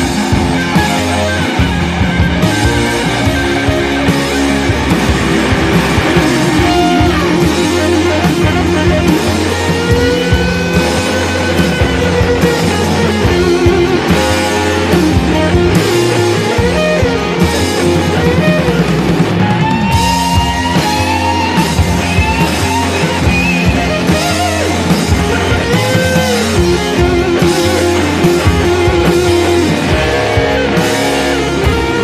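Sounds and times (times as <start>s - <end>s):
drum kit: 0.0s - 32.0s
electric guitar: 0.0s - 32.0s.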